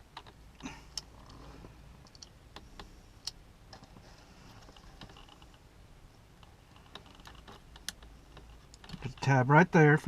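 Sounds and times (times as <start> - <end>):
light clicks and small rattles: 0.0 - 5.6, 6.4 - 9.4.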